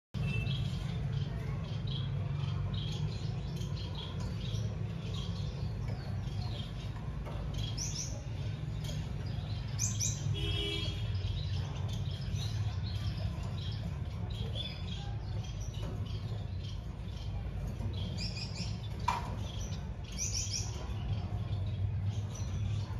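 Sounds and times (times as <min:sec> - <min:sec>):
finches chirping: 0:00.2 - 0:22.9.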